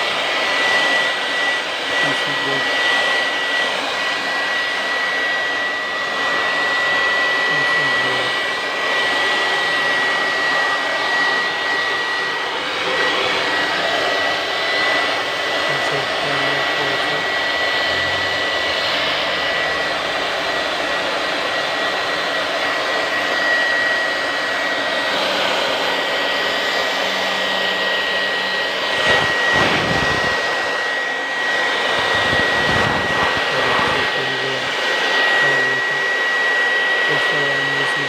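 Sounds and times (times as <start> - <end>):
electric air blower whining: 0.0 - 38.0.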